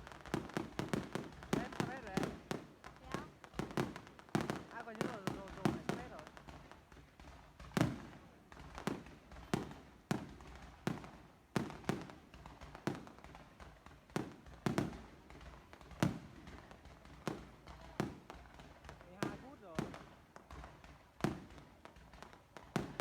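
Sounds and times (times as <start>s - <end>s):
fireworks bangs with echo: 0.0s - 23.0s.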